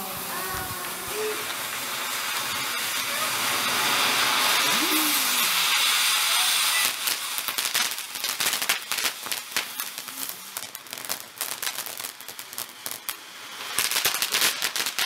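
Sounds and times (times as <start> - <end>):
firework fountain rushing hiss: 0.0 - 15.0
rapid firework crackling: 0.0 - 15.0.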